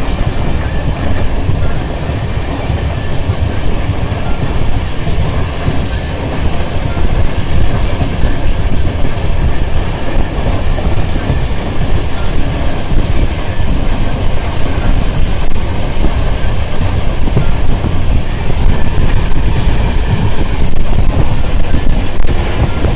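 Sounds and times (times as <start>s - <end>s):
train coaches rumbling: 0.0s - 22.9s.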